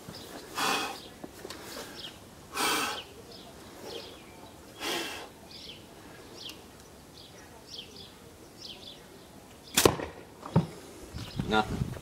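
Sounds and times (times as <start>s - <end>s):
small birds chirping: 0.0s - 9.9s, 10.5s - 11.7s.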